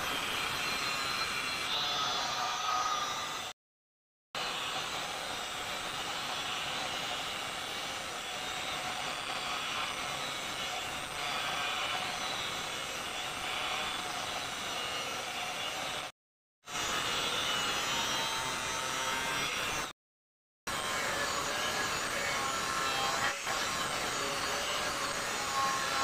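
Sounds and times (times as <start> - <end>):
angle grinder grinding steel: 0.0 - 3.5, 4.4 - 16.1, 16.7 - 19.9, 20.7 - 26.0.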